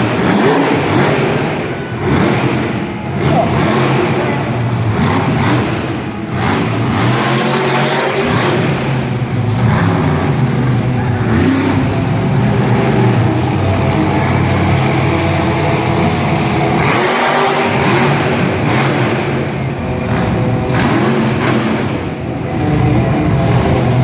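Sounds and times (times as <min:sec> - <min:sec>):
truck engine revving hard: 0:00.0 - 0:24.0.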